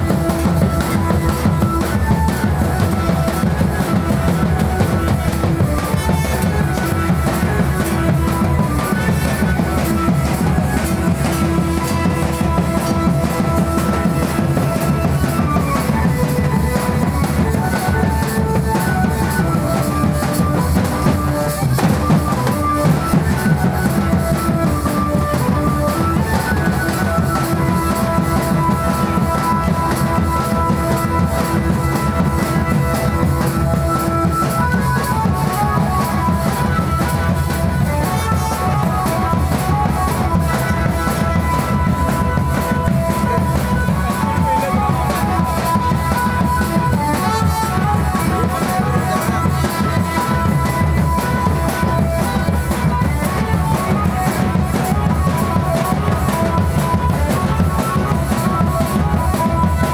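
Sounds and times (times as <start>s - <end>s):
driving drum beat: 0.0s - 59.9s.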